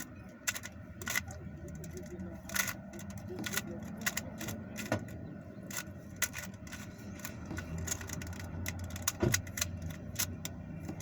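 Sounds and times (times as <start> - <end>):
puzzle cube clicking: 0.0 - 11.0.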